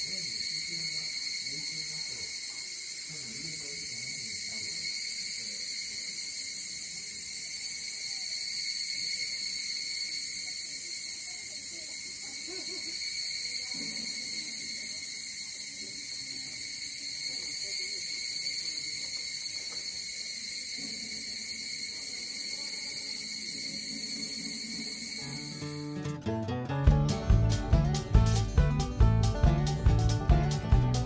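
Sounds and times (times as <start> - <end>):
distant voices murmuring: 0.0 - 25.9
high-pitched insect chorus: 0.0 - 26.0.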